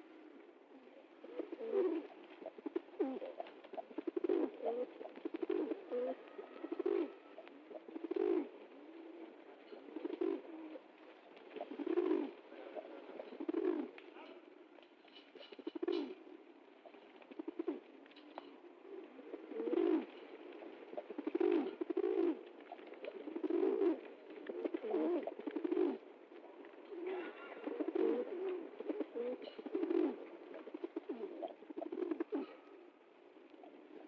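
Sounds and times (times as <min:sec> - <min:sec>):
pigeons cooing: 0:00.0 - 0:14.5, 0:15.2 - 0:34.0.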